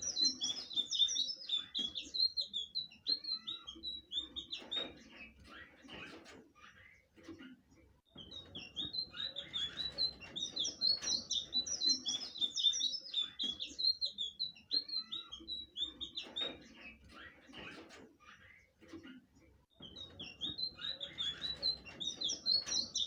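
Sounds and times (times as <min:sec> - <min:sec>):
bird chirps: 0:00.0 - 0:07.1, 0:08.1 - 0:19.0, 0:19.7 - 0:23.0.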